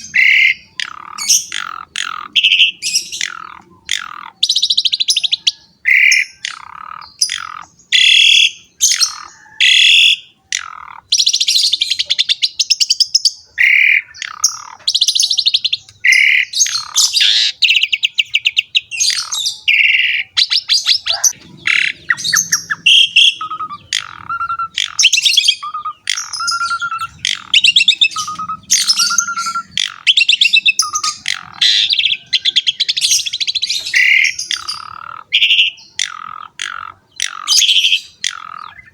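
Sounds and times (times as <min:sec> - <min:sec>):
starling singing: 0:00.0 - 0:38.9.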